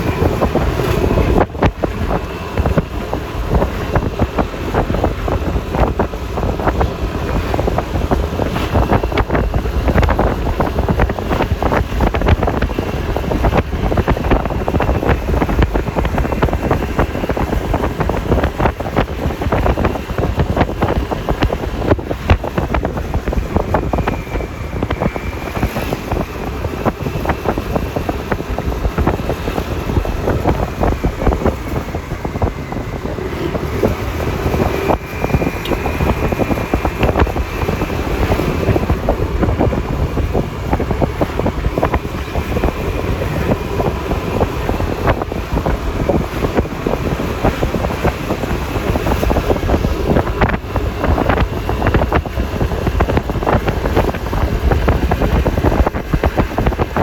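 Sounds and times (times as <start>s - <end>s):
road traffic noise: 0.0s - 57.0s
scooter engine running: 0.0s - 57.0s
wind buffeting microphone: 0.0s - 57.0s.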